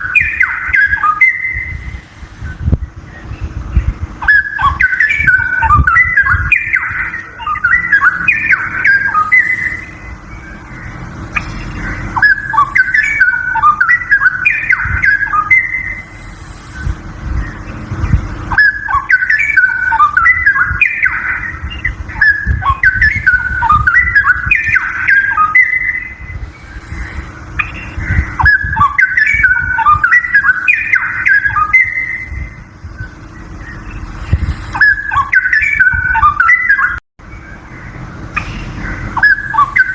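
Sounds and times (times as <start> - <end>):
bird singing warbled song: 0.0 - 39.9
steady low hum: 0.0 - 39.9.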